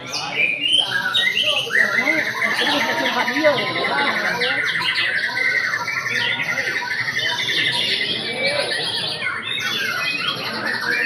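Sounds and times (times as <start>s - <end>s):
songbirds singing warbles and trills: 0.0s - 11.0s.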